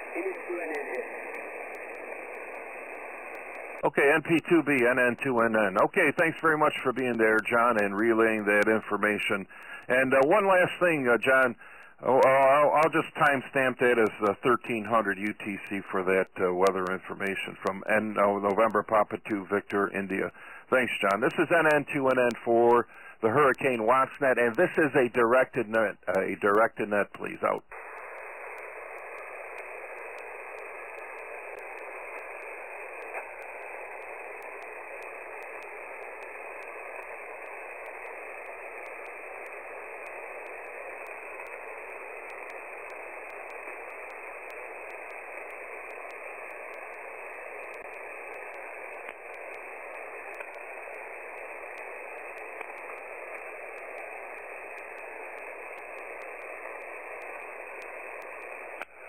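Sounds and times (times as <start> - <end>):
faint static clicks: 0.0 - 59.0
radio receiver hiss: 0.0 - 59.0.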